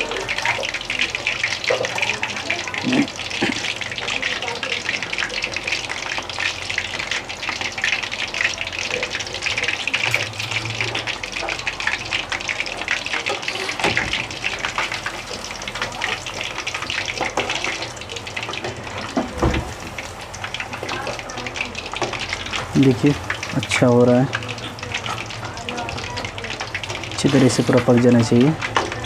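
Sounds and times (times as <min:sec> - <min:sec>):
chicken frying in oil: 0:00.0 - 0:29.0.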